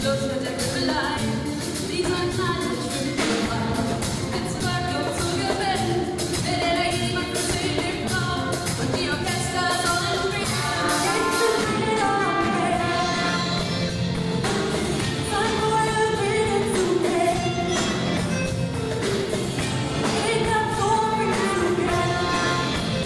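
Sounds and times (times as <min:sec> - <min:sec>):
women singing: 0:00.0 - 0:14.0, 0:15.1 - 0:18.2, 0:20.0 - 0:23.0
drum kit: 0:00.0 - 0:23.0
electric guitar: 0:00.0 - 0:23.0.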